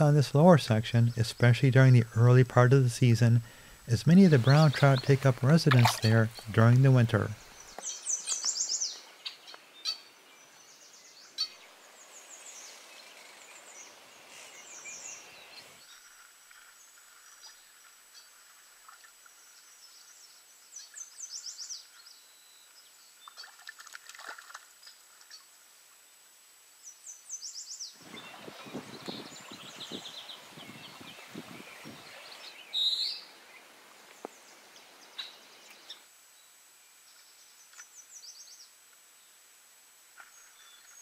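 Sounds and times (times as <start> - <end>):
songbird singing: 0.0 - 23.6, 26.8 - 39.5, 40.2 - 41.0
faint low hiss: 0.0 - 41.0.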